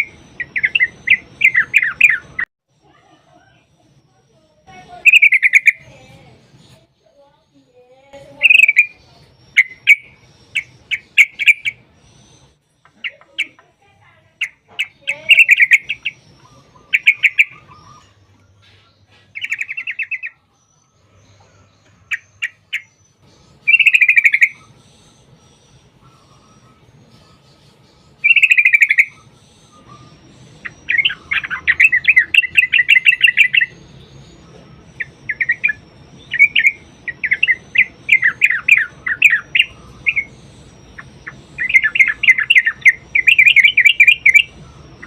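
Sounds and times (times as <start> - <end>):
bird chattering calls: 0.0 - 3.0, 4.7 - 6.8, 8.2 - 20.4, 21.0 - 45.0.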